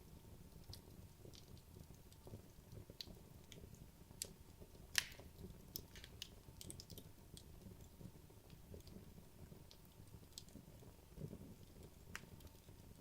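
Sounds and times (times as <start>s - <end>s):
wood logs crackling in fireplace: 0.0s - 13.0s.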